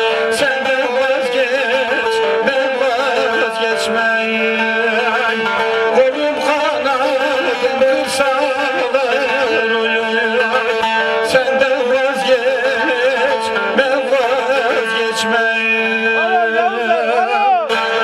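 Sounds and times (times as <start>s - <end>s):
plucked lute melody: 0.0s - 18.0s.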